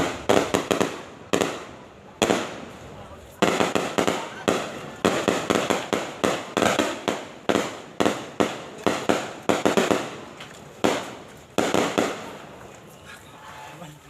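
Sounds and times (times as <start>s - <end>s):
firecrackers banging: 0.0s - 13.6s.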